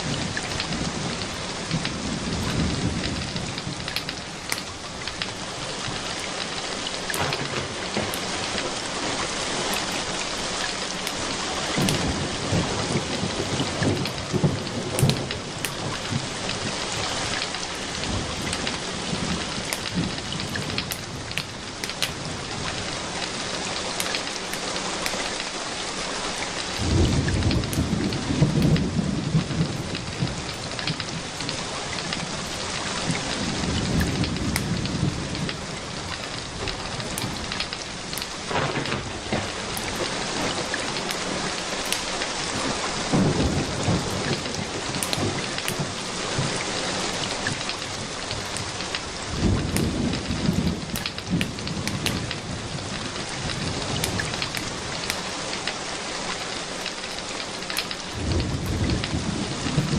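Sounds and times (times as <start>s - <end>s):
low rolls of thunder: 0.0s - 6.1s, 7.1s - 10.2s, 11.5s - 23.3s, 26.8s - 41.6s, 42.4s - 55.2s, 58.1s - 59.9s
steady rain: 0.0s - 59.9s.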